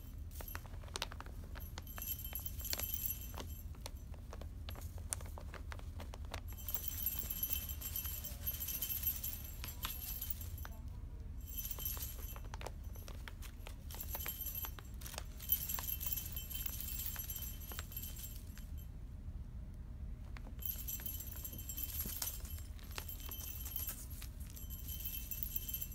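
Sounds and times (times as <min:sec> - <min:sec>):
small bell jingling: 0:00.0 - 0:18.9, 0:20.5 - 0:25.9.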